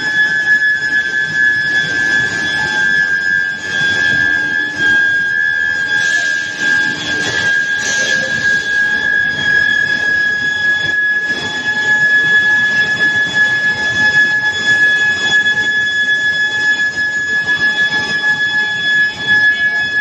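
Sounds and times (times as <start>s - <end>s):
noisy rumble of heating line: 0.0s - 19.8s
high-pitched furnace whine: 0.0s - 20.0s.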